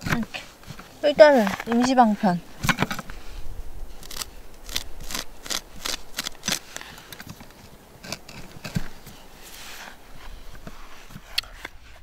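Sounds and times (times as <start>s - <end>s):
metal tent peg scraping: 0.0s - 3.2s, 4.0s - 12.0s.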